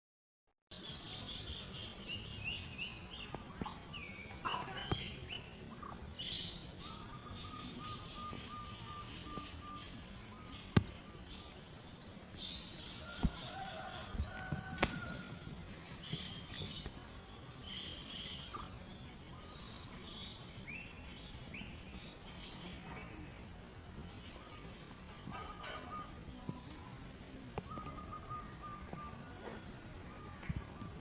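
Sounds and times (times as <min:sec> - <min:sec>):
outdoor background noise: 0:00.7 - 0:31.0
birds chirping and calling: 0:00.8 - 0:31.0.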